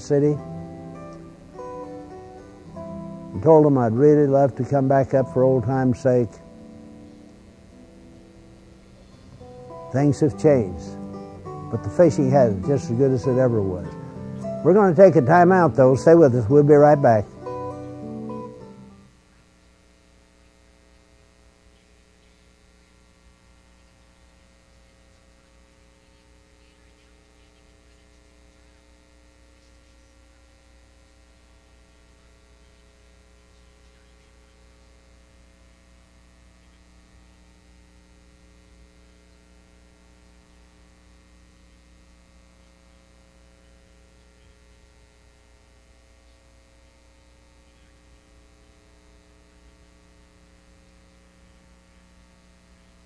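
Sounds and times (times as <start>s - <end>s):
light hiss: 0.0s - 15.1s, 16.7s - 53.0s
faint mains hum: 0.0s - 53.0s.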